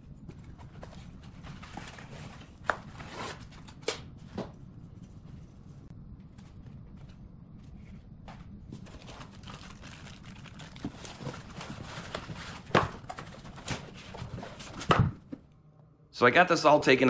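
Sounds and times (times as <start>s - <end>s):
plastic and foam rustling: 0.0s - 15.0s.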